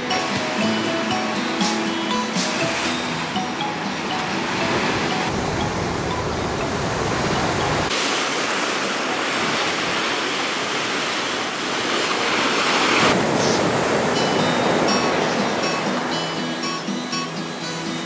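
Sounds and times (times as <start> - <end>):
ocean surf breaking on rocks: 0.0 - 18.0.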